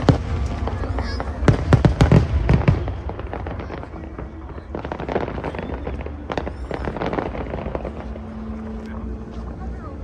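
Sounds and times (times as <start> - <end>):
fireworks crackling and popping: 0.0 - 9.6.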